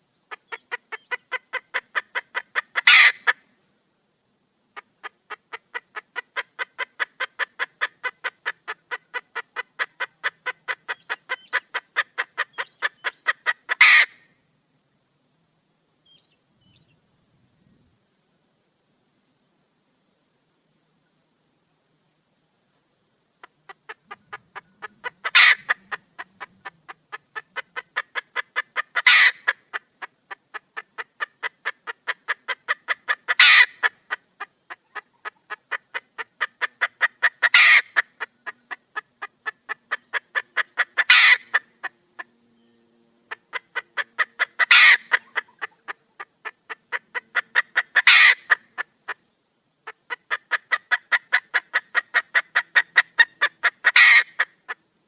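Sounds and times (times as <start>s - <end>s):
junglefowl hen calling: 0.2s - 3.5s, 4.7s - 14.4s, 23.4s - 54.9s.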